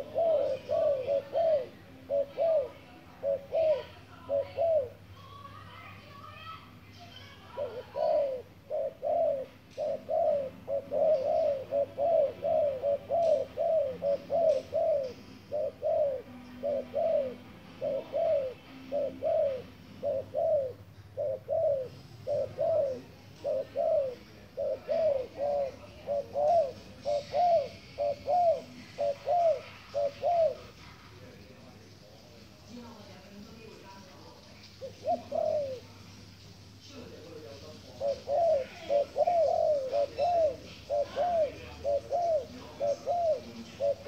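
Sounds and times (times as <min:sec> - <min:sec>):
dove cooing: 0:00.0 - 0:05.1, 0:07.2 - 0:31.0, 0:34.6 - 0:36.1, 0:37.5 - 0:44.0.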